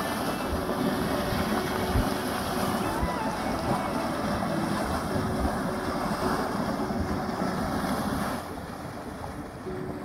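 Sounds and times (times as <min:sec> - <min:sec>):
boiling mud pot churning: 0:00.0 - 0:10.0
wind on microphone: 0:00.0 - 0:10.0.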